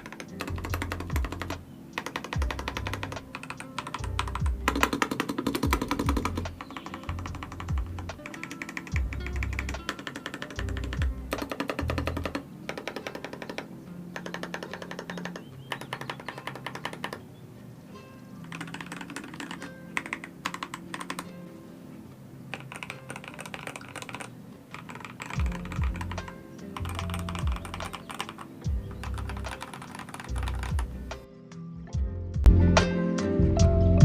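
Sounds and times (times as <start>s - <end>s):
mechanical keyboard clacking: 0.0s - 17.2s, 18.4s - 21.3s, 22.5s - 31.2s
background music: 0.0s - 34.0s.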